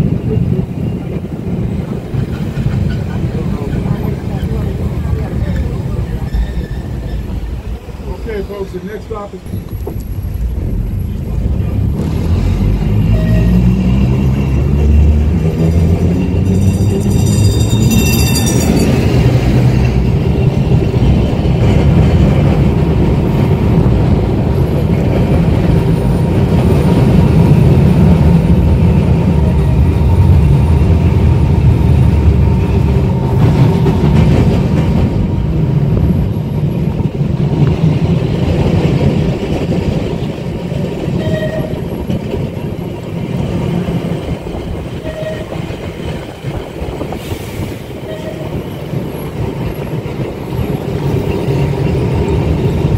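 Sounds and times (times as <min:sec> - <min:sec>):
tram rumbling on rails: 0:00.0 - 0:52.9.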